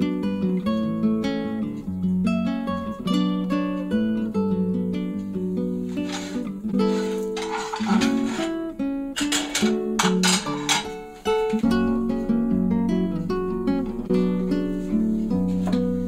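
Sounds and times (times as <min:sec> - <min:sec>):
acoustic guitar plucked and strummed: 0:00.0 - 0:16.0.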